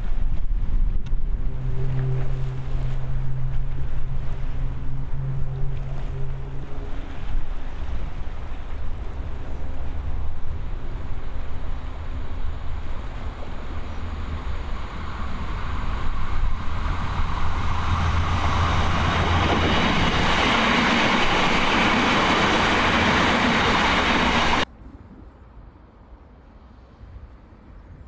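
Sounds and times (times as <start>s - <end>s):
train wheel and rail noise: 0.0s - 28.0s
wind rumble on microphone: 0.0s - 28.0s.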